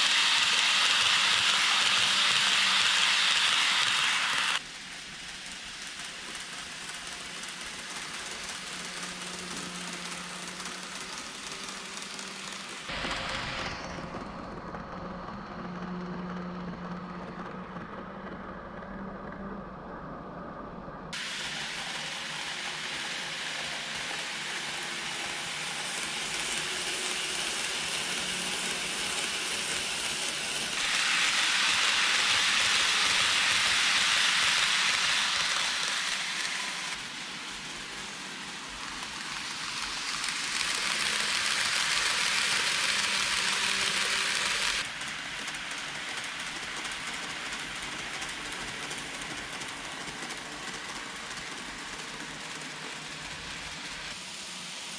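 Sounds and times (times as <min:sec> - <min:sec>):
model train wheels rattling: 0:00.0 - 0:19.4, 0:21.1 - 0:54.9.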